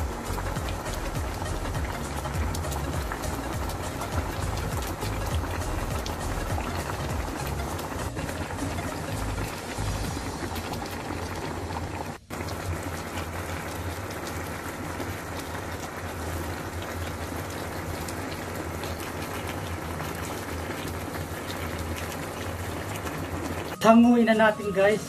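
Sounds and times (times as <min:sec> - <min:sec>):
sauce bubbling and sizzling: 0:00.0 - 0:25.0.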